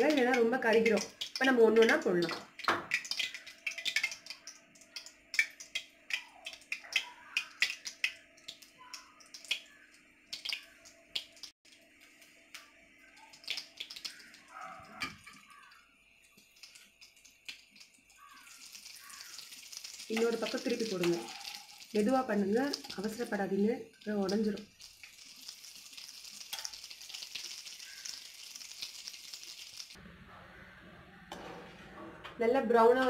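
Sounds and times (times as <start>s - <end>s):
food frying in hot oil: 0.0s - 30.0s.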